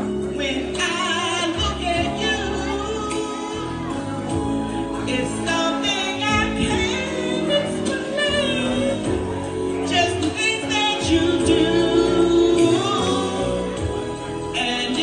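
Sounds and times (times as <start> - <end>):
instrumental backing music: 0.0 - 15.0
person singing: 0.0 - 15.0.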